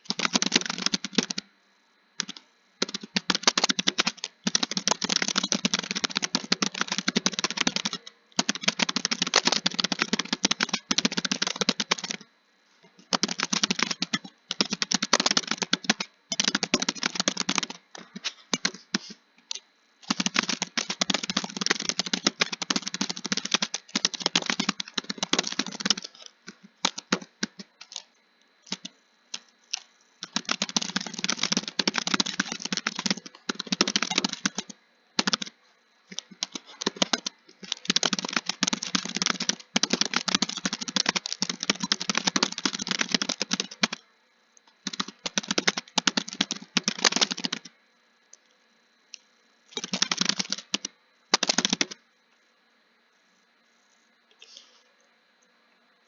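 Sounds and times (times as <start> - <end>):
keyboard typing: 0.0 - 1.5, 2.2 - 12.3, 13.0 - 44.0, 44.7 - 47.7, 49.1 - 52.0.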